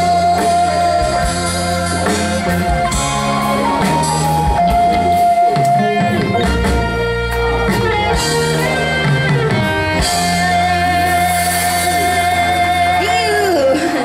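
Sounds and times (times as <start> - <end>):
live band playing pop song: 0.0 - 14.0.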